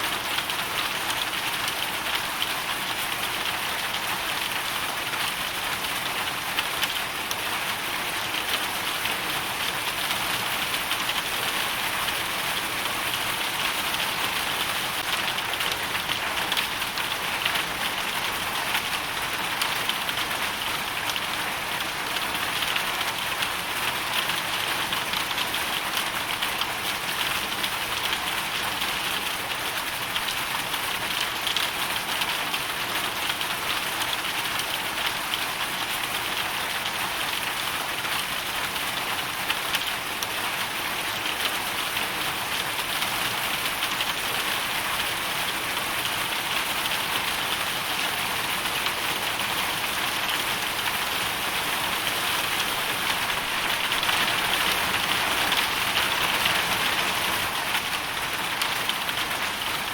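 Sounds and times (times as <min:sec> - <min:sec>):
hail and rain patter: 0:00.0 - 0:59.9.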